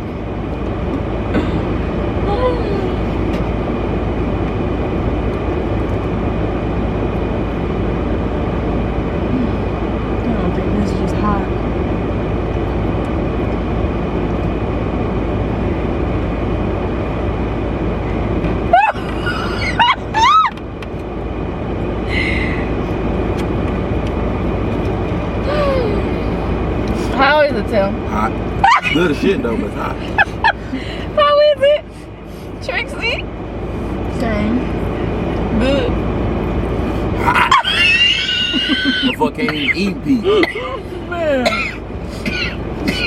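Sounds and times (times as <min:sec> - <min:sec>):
car interior rumble and hiss: 0:00.0 - 0:43.0.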